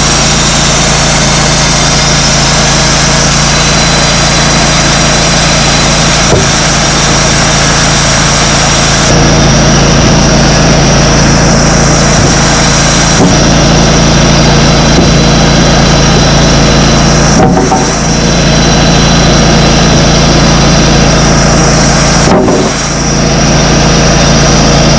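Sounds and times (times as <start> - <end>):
band sawmill running: 0.0 - 24.9.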